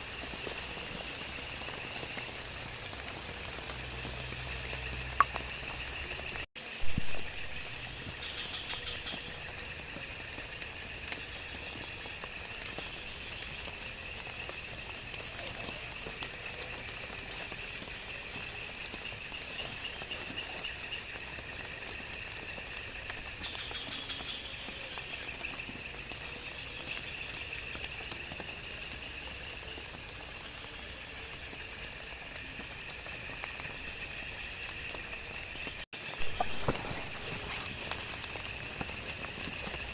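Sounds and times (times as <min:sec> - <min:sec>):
insects calling: 0:00.0 - 0:39.9.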